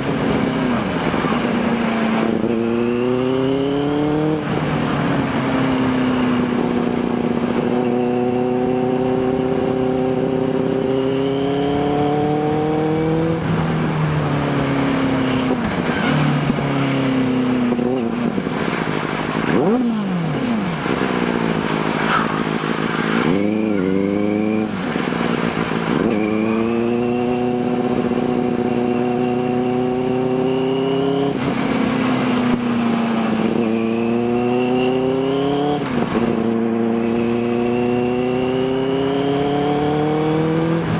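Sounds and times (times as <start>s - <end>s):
engines passing by: 0.0s - 40.9s
motorcycle engine accelerating: 0.0s - 40.9s.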